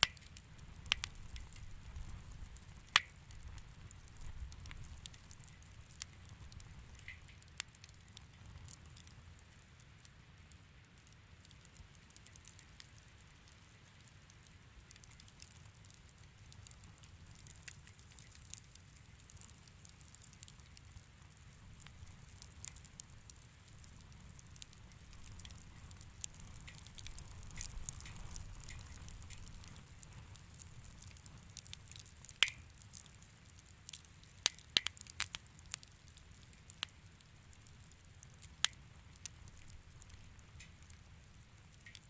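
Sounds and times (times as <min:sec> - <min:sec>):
low rumble of fire: 0:00.0 - 0:42.0
wood fire crackling: 0:00.0 - 0:42.0.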